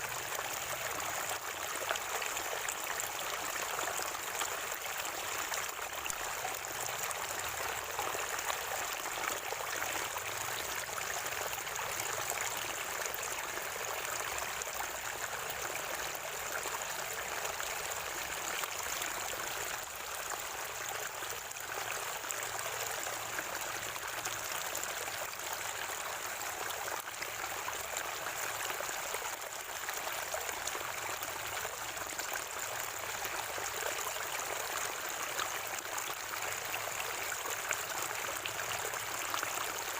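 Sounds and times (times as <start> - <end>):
spring water trickling and gurgling: 0.0 - 39.9.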